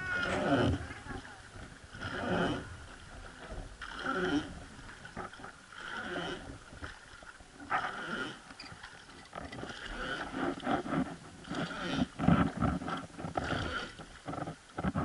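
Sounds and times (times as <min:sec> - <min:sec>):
wooden oar creaking: 0:00.0 - 0:15.0
oar blade splashing water: 0:00.1 - 0:15.0.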